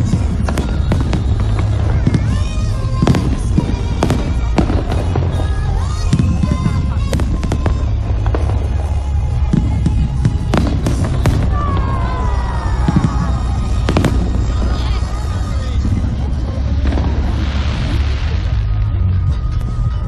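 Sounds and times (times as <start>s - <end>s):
fireworks bangs and cracks: 0.0s - 20.0s
music playing: 0.0s - 20.0s
steady low rumble: 0.0s - 20.0s.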